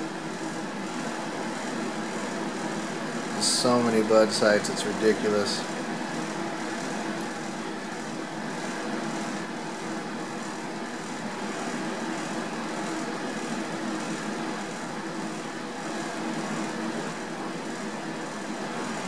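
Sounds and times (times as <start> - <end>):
fans whirring: 0.0 - 19.0.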